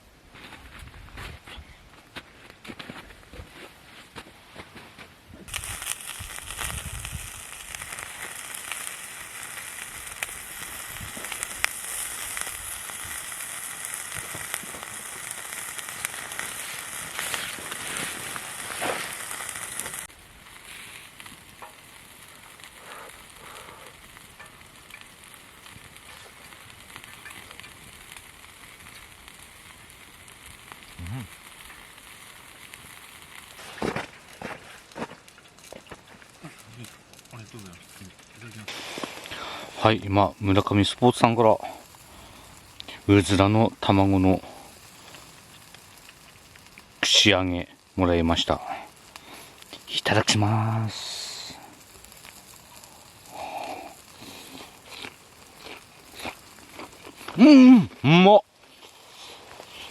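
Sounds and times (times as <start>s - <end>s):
food sizzling and crackling: 4.5s - 59.9s.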